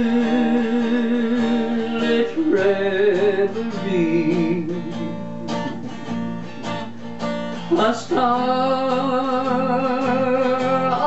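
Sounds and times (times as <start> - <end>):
man singing with vibrato: 0.0 - 6.8, 7.6 - 11.0
strummed acoustic guitar: 0.0 - 11.0.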